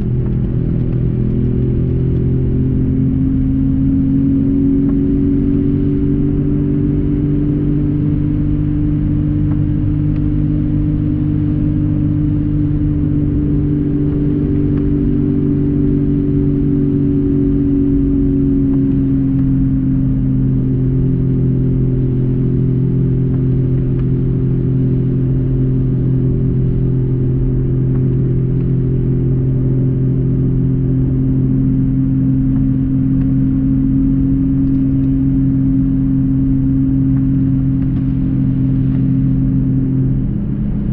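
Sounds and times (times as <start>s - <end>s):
car engine drone: 0.0s - 40.9s.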